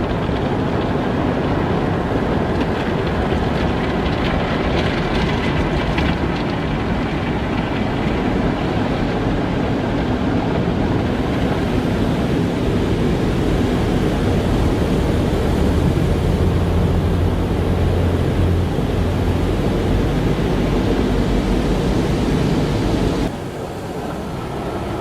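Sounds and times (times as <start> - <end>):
car wash machinery rushing: 0.0 - 25.0
low hum: 0.0 - 25.0.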